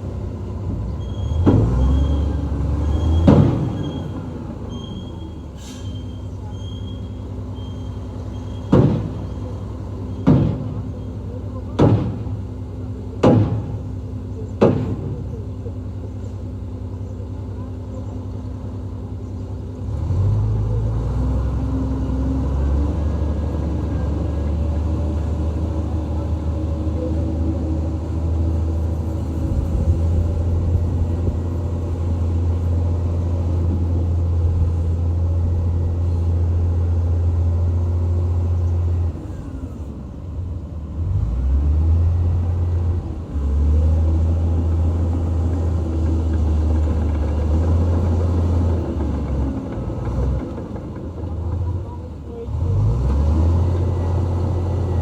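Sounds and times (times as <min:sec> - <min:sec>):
heavy machine diesel engine drone: 0:00.0 - 0:55.0.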